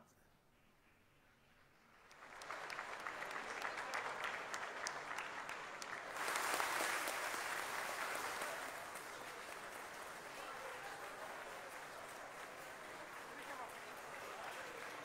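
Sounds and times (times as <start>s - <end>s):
crowd applauding: 1.9s - 15.0s.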